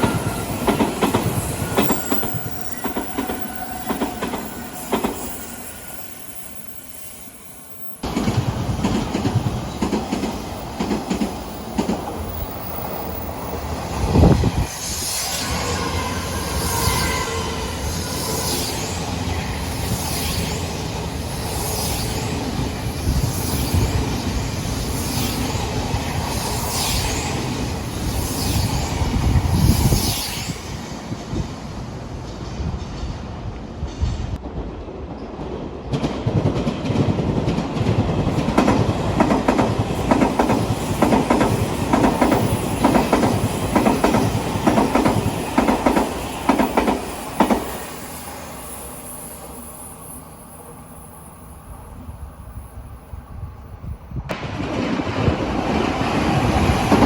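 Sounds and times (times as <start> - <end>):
trains passing: 0.0 - 57.0.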